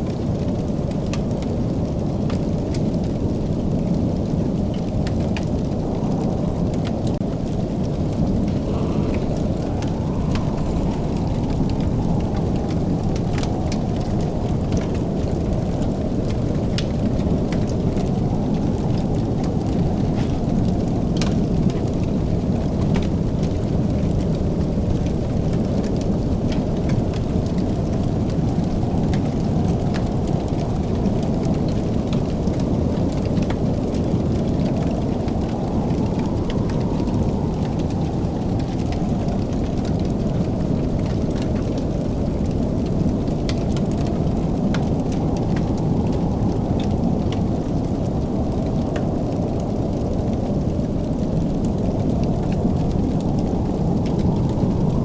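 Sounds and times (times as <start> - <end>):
fireplace crackling and popping: 0.1 - 55.0.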